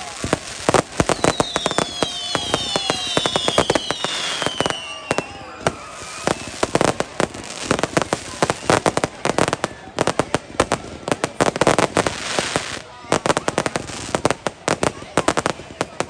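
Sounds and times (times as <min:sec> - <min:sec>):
fireworks bangs and crackles: 0:00.0 - 0:16.0
whistling fireworks: 0:00.0 - 0:16.0.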